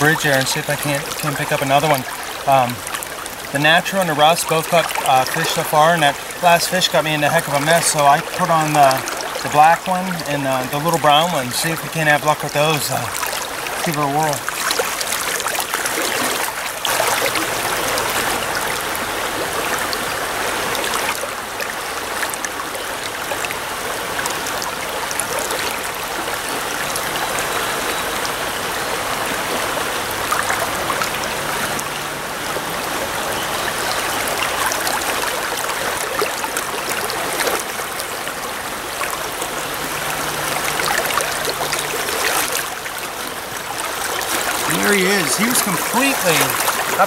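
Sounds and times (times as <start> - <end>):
stream rushing over riffle: 0.0 - 47.0.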